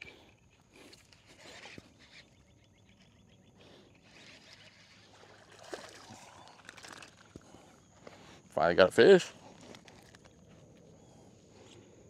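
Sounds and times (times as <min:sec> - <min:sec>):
quiet outdoor background: 0:00.0 - 0:12.0.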